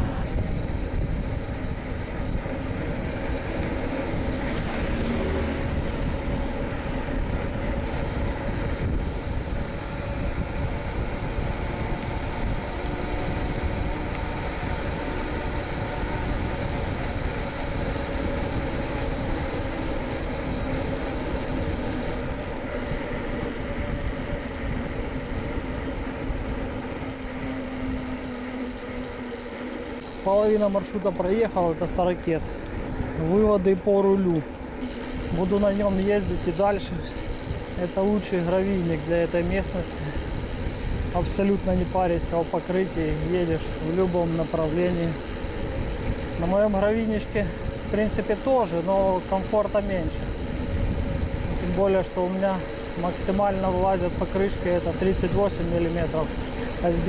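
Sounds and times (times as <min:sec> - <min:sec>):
wind rushing over microphone: 0:00.0 - 0:34.1, 0:34.7 - 0:57.0.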